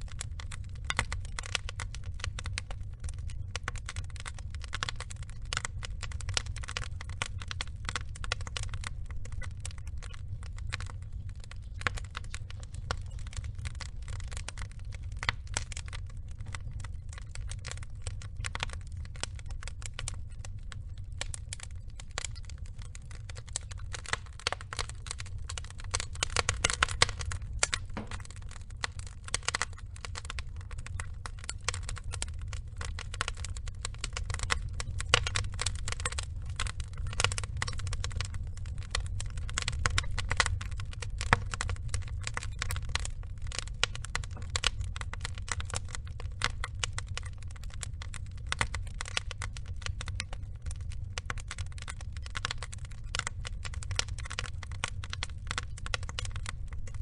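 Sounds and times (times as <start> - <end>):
burning logs crackling: 0.0 - 57.0.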